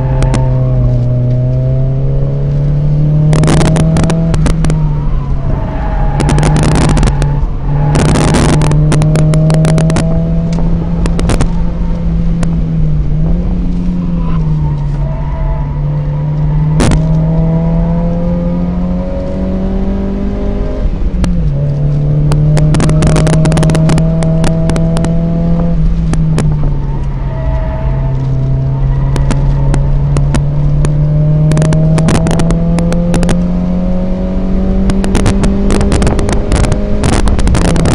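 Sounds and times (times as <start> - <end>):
car engine pulling hard: 0.0 - 37.9.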